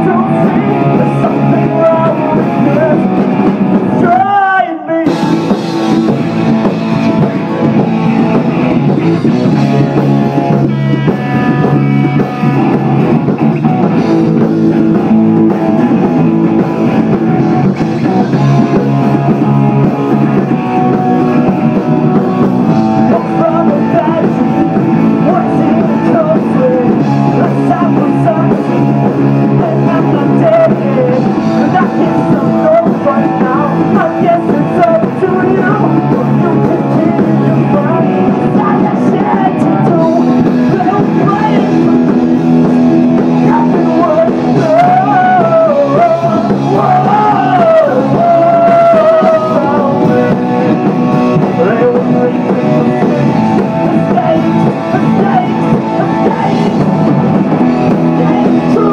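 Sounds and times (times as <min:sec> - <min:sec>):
person singing: 0:00.0 - 0:13.1, 0:14.3 - 0:58.9
drum kit: 0:00.0 - 0:58.9
guitar: 0:00.0 - 0:58.9.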